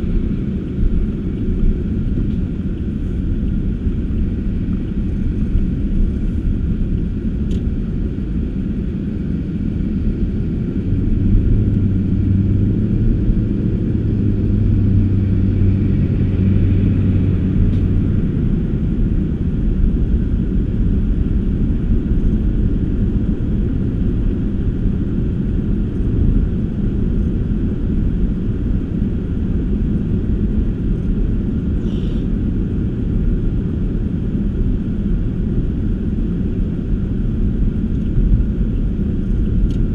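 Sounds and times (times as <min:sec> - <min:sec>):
car engine and tyres rumbling: 0:00.0 - 0:39.9
deep hum: 0:00.0 - 0:39.9.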